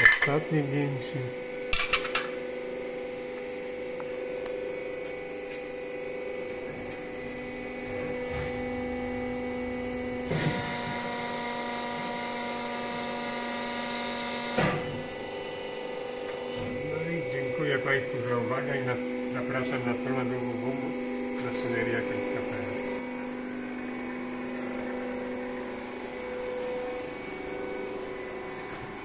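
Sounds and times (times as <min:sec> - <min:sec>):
hydraulic pump humming: 0:00.0 - 0:29.0.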